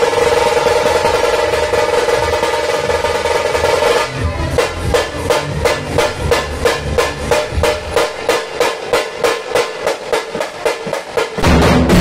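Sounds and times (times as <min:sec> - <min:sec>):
low boom of barrel drums: 0:00.0 - 0:09.4, 0:11.4 - 0:12.0
drum stick strikes: 0:00.0 - 0:12.0.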